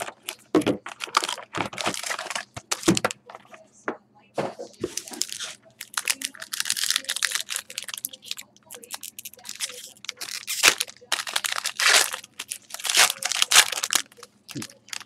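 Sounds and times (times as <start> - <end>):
foil wrapper crinkling: 0.0 - 3.5, 4.9 - 15.0.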